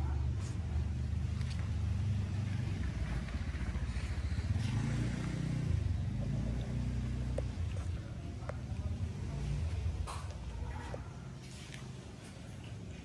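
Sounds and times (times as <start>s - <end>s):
two-stroke engine idling: 0.0s - 11.2s.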